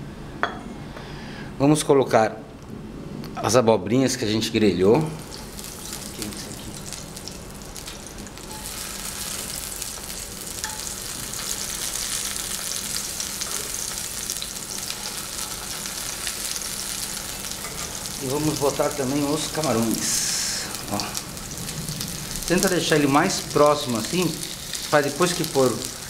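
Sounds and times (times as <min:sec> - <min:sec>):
vegetables sizzling in oil: 0:05.0 - 0:26.0.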